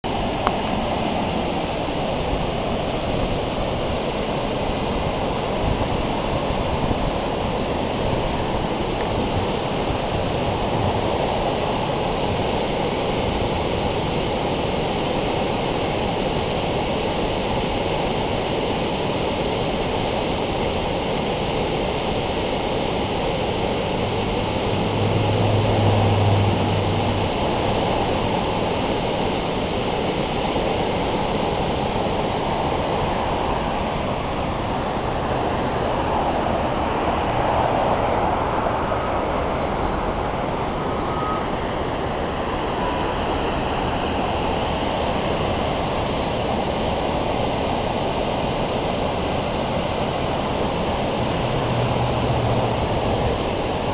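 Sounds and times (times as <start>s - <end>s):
water rushing over dam: 0.0s - 53.9s.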